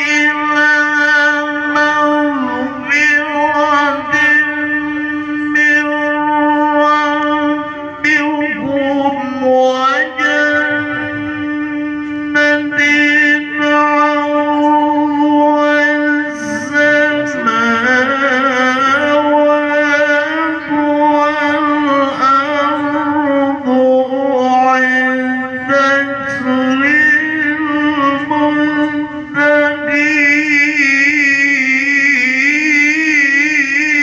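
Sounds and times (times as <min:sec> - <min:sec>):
man reciting melodically into microphone: 0:00.0 - 0:34.0.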